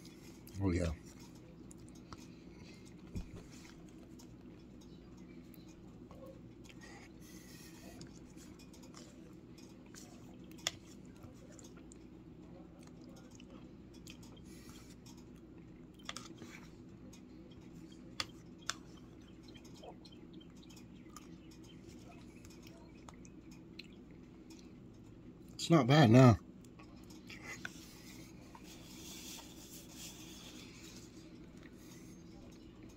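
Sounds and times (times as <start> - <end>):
person chewing food: 0.0 - 25.2, 26.6 - 32.9
steady low hum: 0.0 - 32.9.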